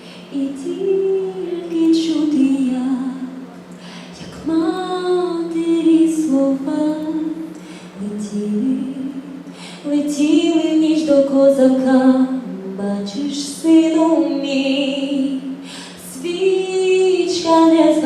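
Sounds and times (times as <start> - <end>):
woman singing slow melody: 0.0 - 18.0.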